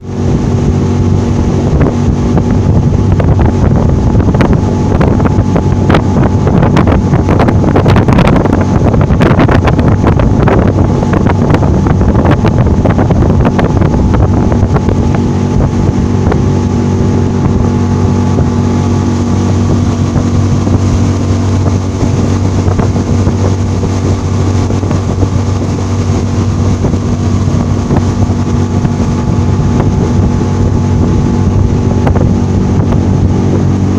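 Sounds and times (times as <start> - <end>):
knocks and splashes: 0.0 - 33.9
outboard motor running: 0.0 - 33.9
wind noise on microphone: 0.0 - 33.9.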